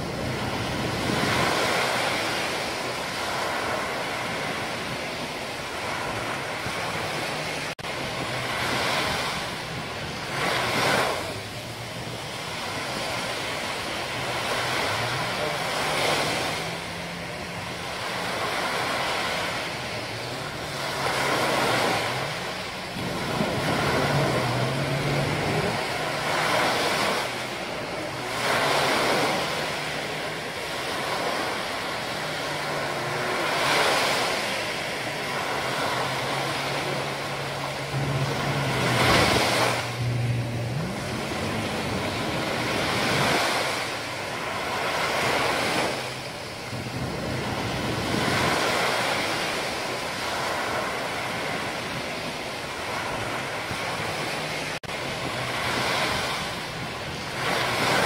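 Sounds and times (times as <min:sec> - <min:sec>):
surf waves breaking on beach: 0:00.0 - 0:58.0.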